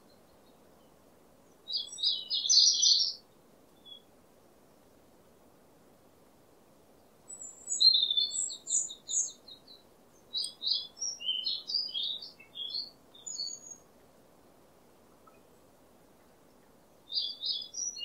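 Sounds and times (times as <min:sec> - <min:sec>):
faint background hiss: 0:00.0 - 0:18.0
songbirds chirping: 0:00.0 - 0:18.0.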